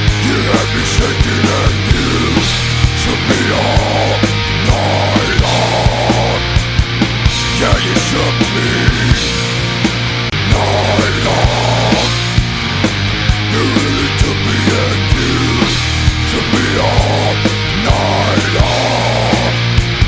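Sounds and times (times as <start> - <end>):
instrumental rock music: 0.0 - 20.0.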